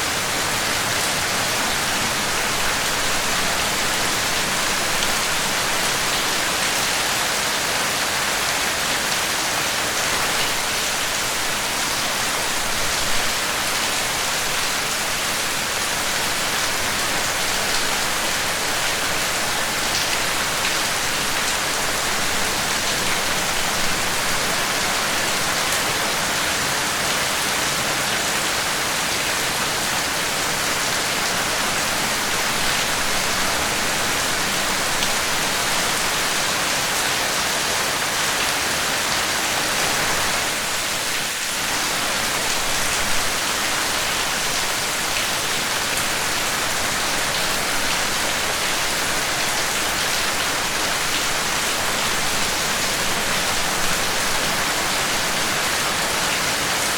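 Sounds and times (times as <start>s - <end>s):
dense rainfall: 0.0s - 56.9s.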